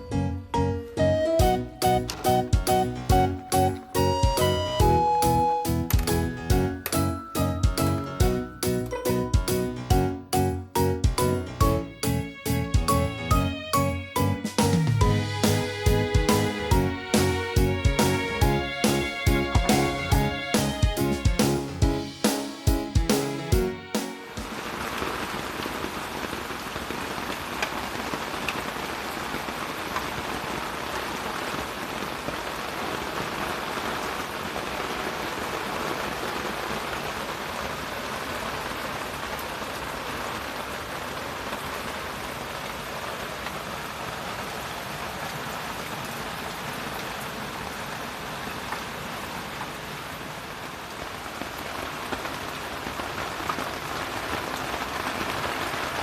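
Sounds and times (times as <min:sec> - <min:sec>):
steady rain falling: 0:01.4 - 0:56.0.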